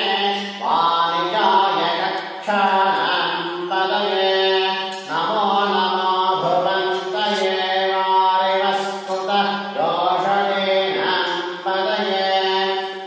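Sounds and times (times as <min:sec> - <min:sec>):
person chanting: 0:00.0 - 0:13.0.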